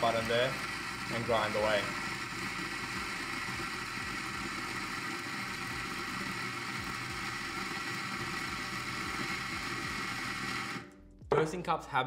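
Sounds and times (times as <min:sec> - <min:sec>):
coffee grinder grinding beans: 0:00.0 - 0:10.9.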